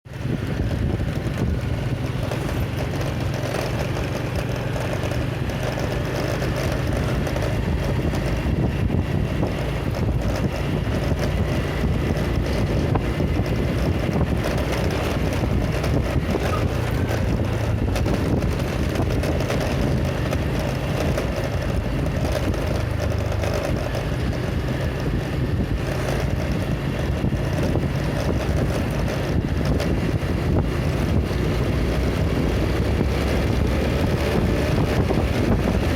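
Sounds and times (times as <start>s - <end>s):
vehicle engine hum: 0.0s - 35.9s
wind rushing over microphone: 0.1s - 35.9s.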